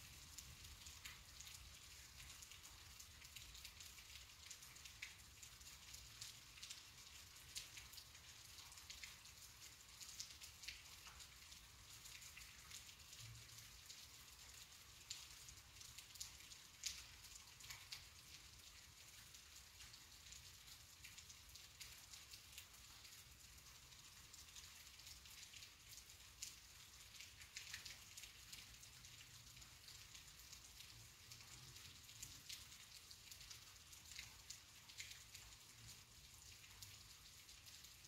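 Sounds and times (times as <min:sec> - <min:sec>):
light rain: 0:00.0 - 0:38.0.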